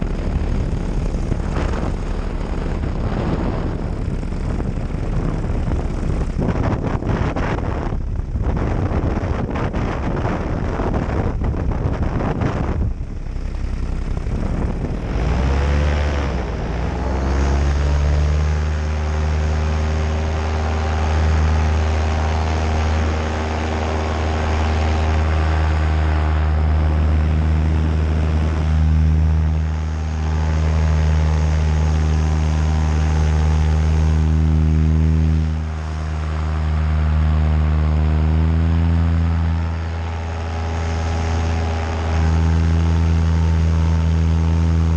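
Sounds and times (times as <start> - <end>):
paramotor engine and propeller: 0.0 - 44.9
wind buffeting microphone: 0.0 - 44.9.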